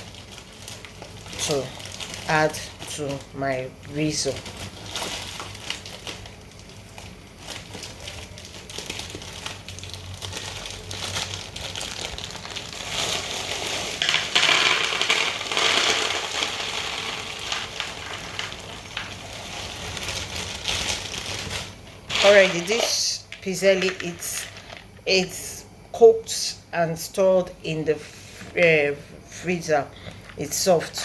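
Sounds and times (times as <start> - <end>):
kitchen rustling and crinkling: 0.0 - 25.6, 27.2 - 31.0.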